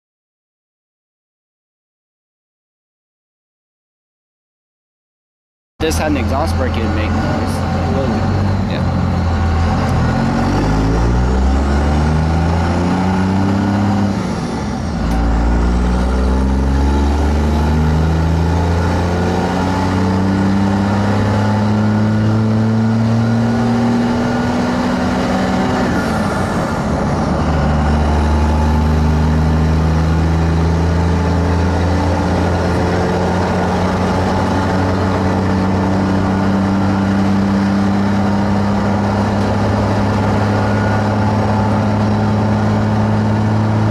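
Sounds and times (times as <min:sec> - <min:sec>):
diesel truck engine accelerating: 0:05.8 - 0:43.9.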